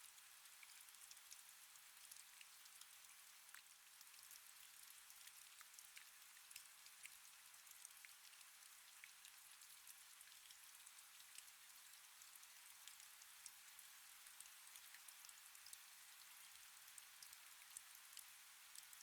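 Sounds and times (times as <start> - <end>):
faint steady rain: 0.0 - 19.0.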